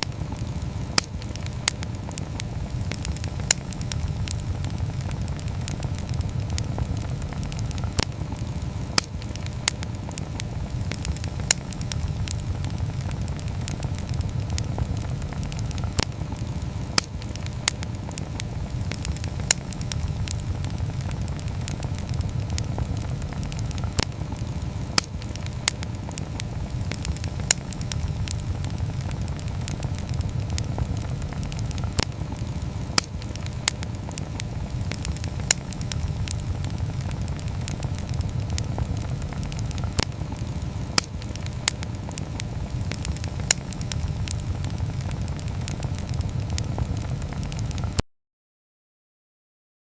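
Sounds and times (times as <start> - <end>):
campfire crackling and popping: 0.0 - 48.0
low fire rumble: 0.0 - 48.0.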